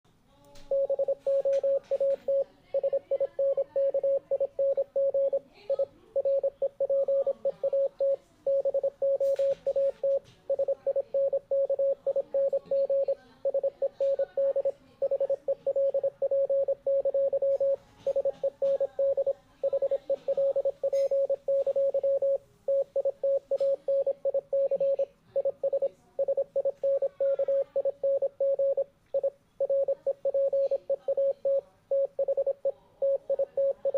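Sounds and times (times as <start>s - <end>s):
morse code beeps: 0.7s - 33.9s.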